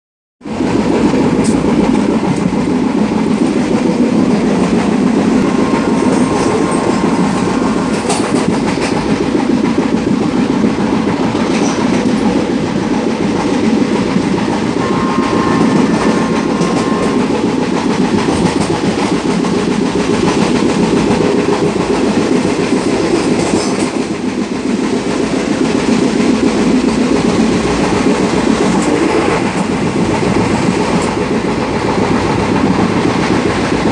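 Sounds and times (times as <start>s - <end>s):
train running gear rumbling: 0.4s - 33.9s
wheels clicking over rail joints: 0.5s - 14.8s, 16.7s - 33.9s.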